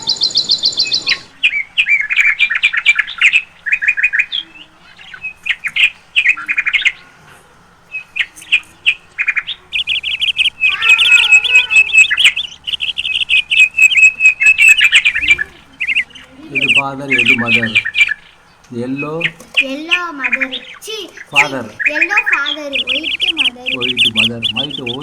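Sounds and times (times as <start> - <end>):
lovebirds chirping: 0.0 - 25.0.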